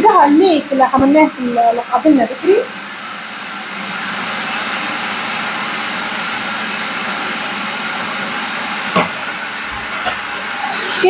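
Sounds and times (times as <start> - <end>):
food processor motor running: 0.0 - 11.0.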